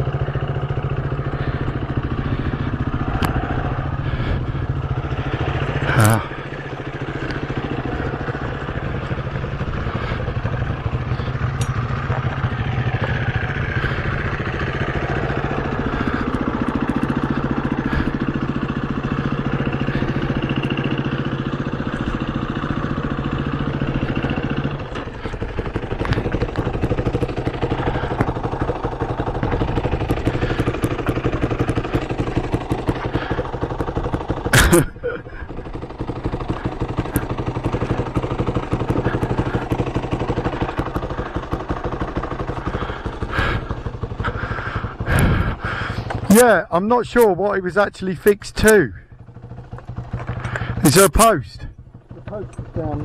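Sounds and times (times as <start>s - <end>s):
dirt bike engine idling: 0.0s - 53.0s.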